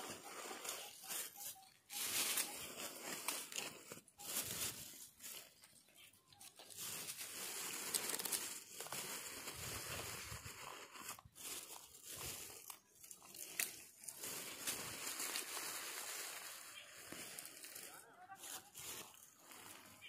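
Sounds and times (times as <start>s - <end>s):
crinkling and rustling: 0.0s - 20.0s.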